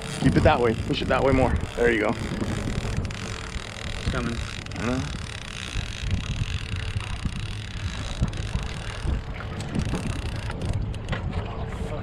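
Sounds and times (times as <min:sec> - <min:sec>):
water lapping around boat: 0:00.0 - 0:12.0
wind buffeting microphone: 0:00.0 - 0:12.0.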